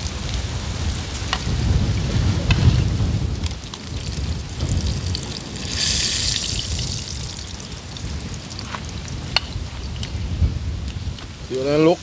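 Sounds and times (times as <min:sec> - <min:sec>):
hot oil sizzling: 0:00.0 - 0:12.0
wind rumble on microphone: 0:00.0 - 0:12.0.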